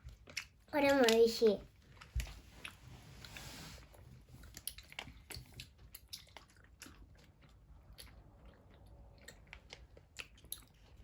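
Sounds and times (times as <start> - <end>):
person chewing candy: 0.0 - 3.4, 4.0 - 11.0.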